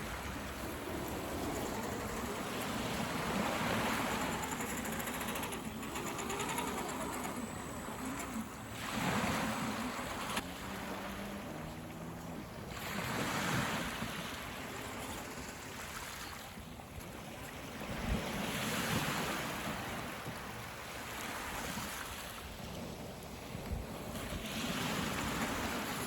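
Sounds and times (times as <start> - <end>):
sea waves washing on beach: 0.0 - 26.0
wind on microphone: 0.0 - 26.0.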